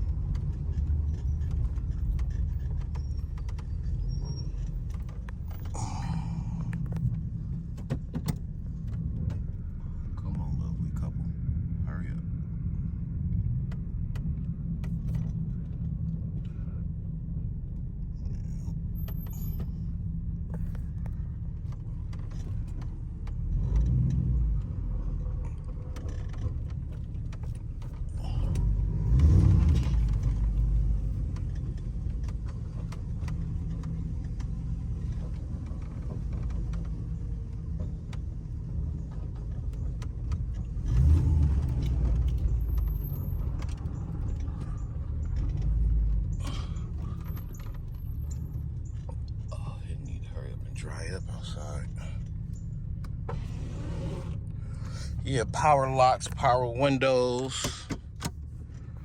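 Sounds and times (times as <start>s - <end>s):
car engine rumble from inside: 0.0s - 59.0s.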